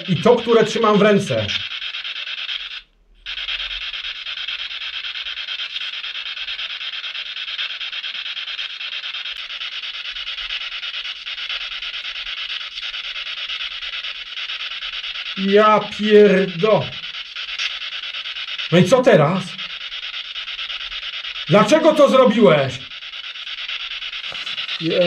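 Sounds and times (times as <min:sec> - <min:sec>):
rapidly chopped radio static: 0:00.0 - 0:25.0.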